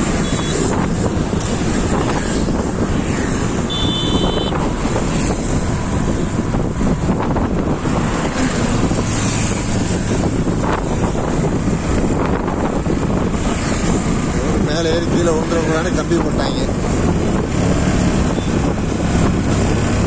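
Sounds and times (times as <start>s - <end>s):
motorcycle engine and tyre noise: 0.0s - 20.0s
wind rushing over microphone: 0.0s - 20.0s.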